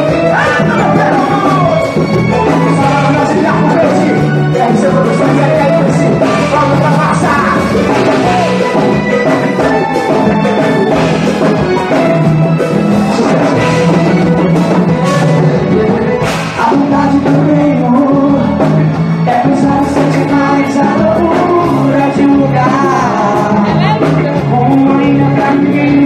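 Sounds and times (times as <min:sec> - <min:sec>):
person singing: 0:00.0 - 0:12.2, 0:12.8 - 0:26.0
live band playing: 0:00.0 - 0:26.0
steady drum beat: 0:00.0 - 0:26.0.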